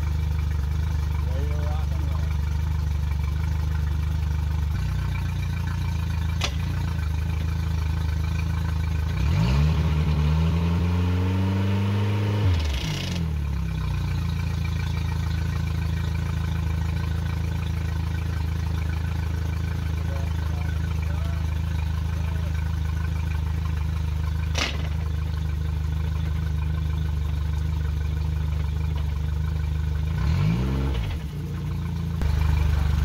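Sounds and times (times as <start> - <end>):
outboard motor idling and revving: 0.0 - 33.0.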